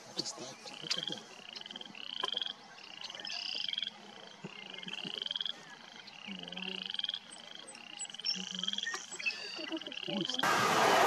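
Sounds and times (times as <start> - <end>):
frogs calling in chorus: 0.0 - 10.4.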